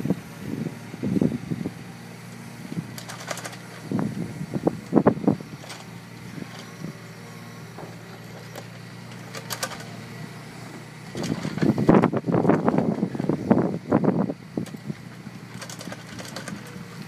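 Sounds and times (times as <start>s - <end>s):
diesel engine running: 0.0s - 17.0s
excavator bucket digging soil: 2.6s - 17.0s.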